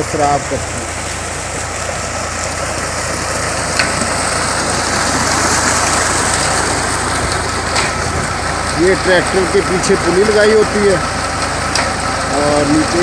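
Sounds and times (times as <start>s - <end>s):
tractor engine running: 0.0s - 13.0s
water gushing from pipe: 0.0s - 13.0s.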